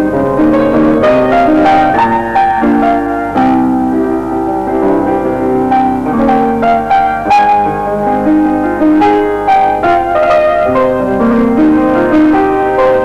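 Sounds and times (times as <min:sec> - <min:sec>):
piano melody with chords: 0:00.0 - 0:13.0.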